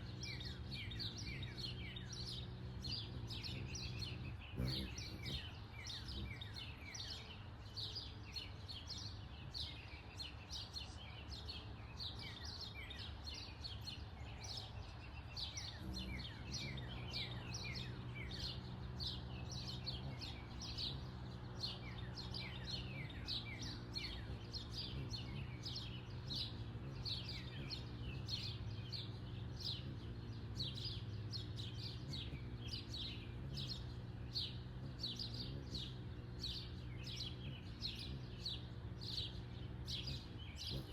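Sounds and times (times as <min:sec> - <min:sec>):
birds chirping: 0:00.0 - 0:40.9
low mechanical hum: 0:00.0 - 0:40.9.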